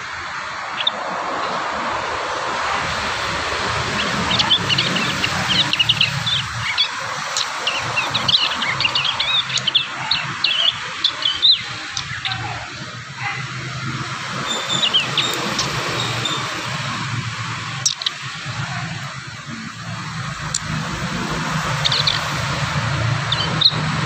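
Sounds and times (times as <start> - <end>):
young birds chirping: 0.7 - 1.0, 2.7 - 24.0.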